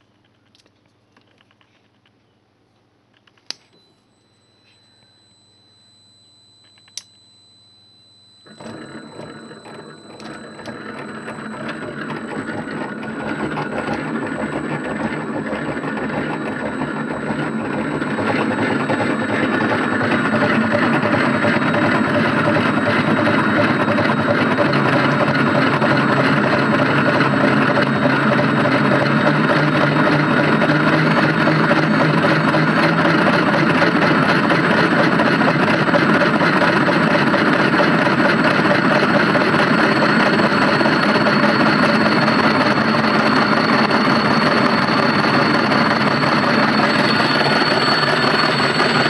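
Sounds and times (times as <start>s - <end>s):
motor running mechanically: 8.3s - 49.0s.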